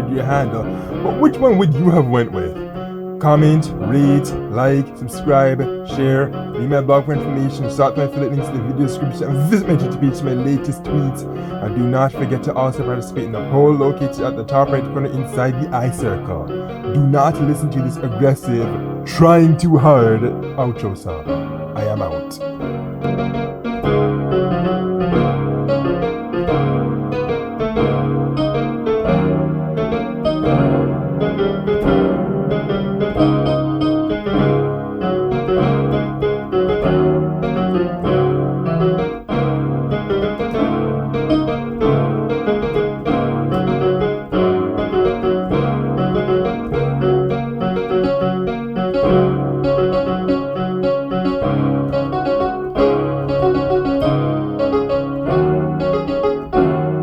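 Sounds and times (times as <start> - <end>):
electronic keyboard piano melody: 0.0 - 57.0.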